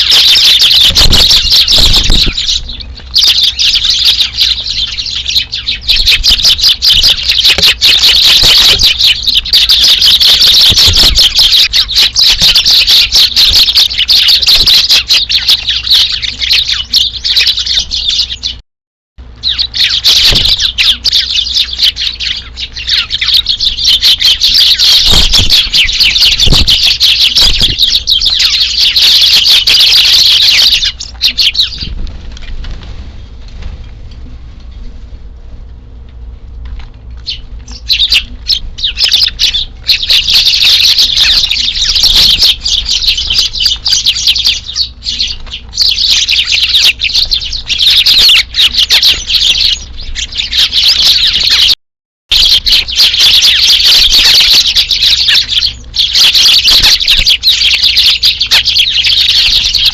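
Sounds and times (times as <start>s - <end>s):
flock of sparrows chirping: 0.0s - 18.6s, 19.2s - 35.2s, 36.2s - 59.9s.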